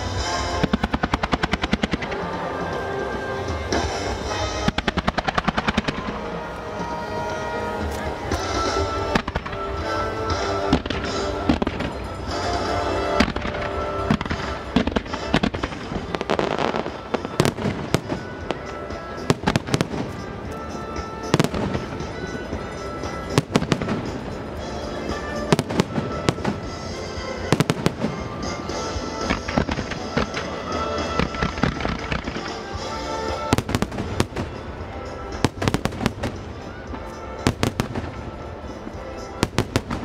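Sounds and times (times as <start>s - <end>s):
fireworks bursts and crackles: 0.0s - 40.0s
music: 0.0s - 40.0s.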